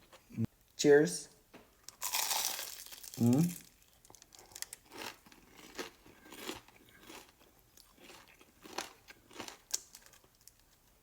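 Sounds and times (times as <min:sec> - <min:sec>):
chewing crispy fried chicken: 0:01.9 - 0:11.0.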